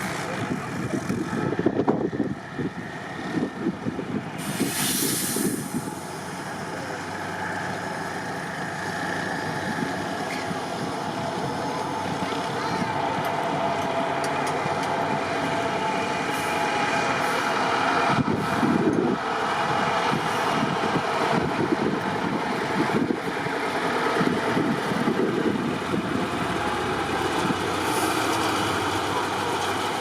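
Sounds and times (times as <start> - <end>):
truck engine running hard: 0.0 - 30.0.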